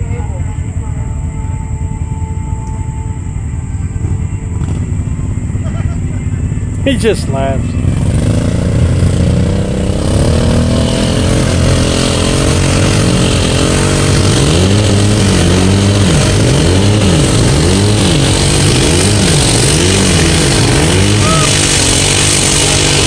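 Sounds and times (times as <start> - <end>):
off-road vehicle engine revving: 0.0 - 23.0
wheels spinning in mud: 3.6 - 23.0.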